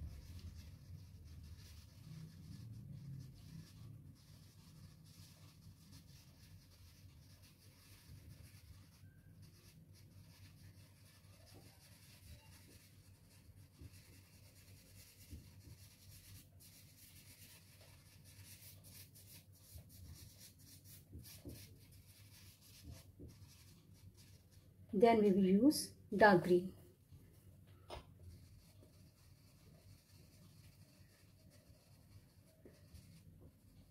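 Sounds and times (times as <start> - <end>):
pastel stick scratching paper: 0.0 - 25.4, 27.8 - 33.9.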